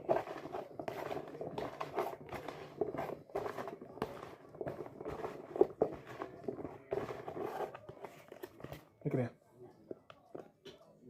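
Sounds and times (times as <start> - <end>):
hands tossing food in a bowl: 0.0 - 8.9.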